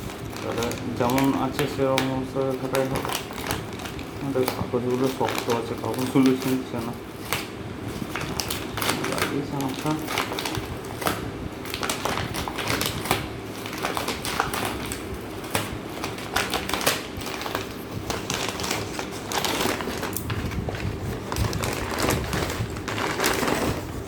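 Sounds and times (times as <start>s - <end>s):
cardboard packaging crinkling and rustling: 0.0s - 24.0s.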